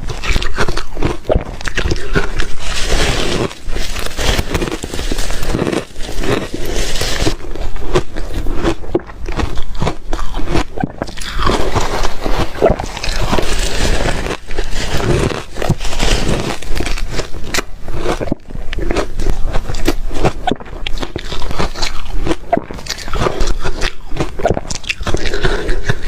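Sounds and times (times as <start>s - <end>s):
ice cubes crunched between teeth: 0.0s - 26.0s.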